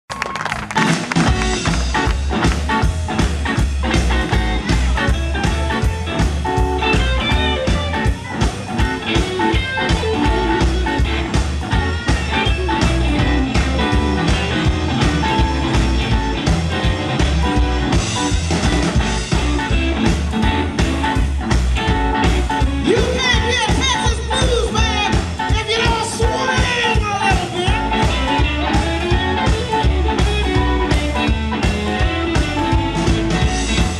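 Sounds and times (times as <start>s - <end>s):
blues band playing: 0.1s - 33.9s.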